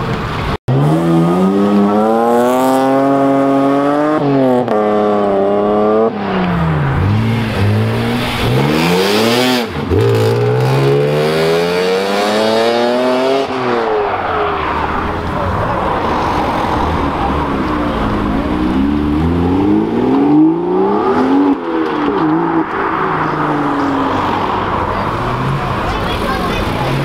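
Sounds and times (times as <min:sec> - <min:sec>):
car engine revving: 0:00.7 - 0:27.0.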